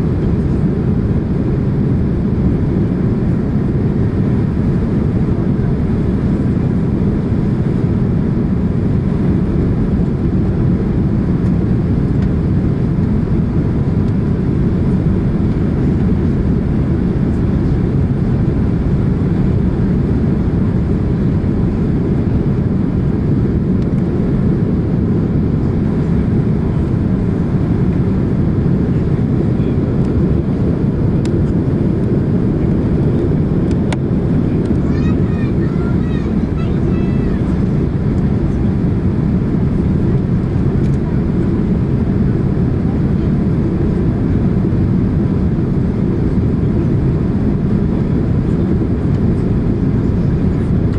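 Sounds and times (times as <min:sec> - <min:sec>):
airplane cabin engine roar: 0:00.0 - 0:50.9.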